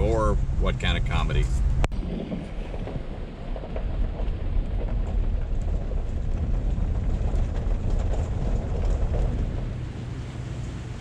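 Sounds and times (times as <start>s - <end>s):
low uneven rumbling: 0.0s - 11.0s.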